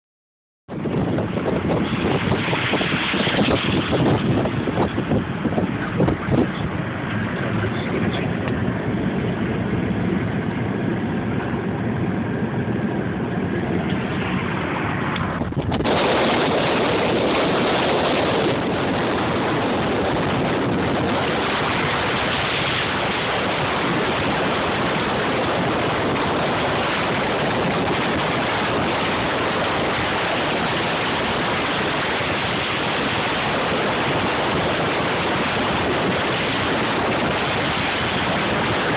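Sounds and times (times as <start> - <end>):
wind and road noise in car: 0.7 - 38.9.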